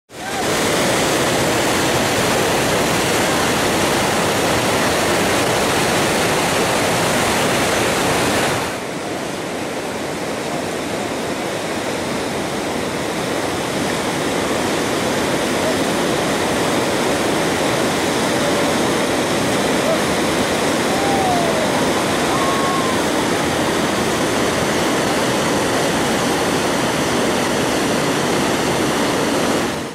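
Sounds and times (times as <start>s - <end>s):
river rapids rushing: 0.1s - 29.9s.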